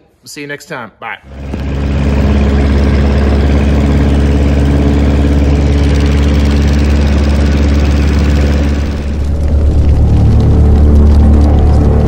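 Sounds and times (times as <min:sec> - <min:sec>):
light aircraft piston engine: 0:01.2 - 0:12.0.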